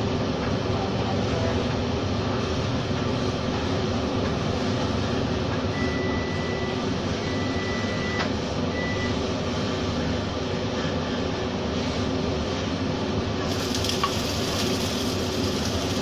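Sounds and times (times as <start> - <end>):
range hood fan running: 0.0 - 16.0.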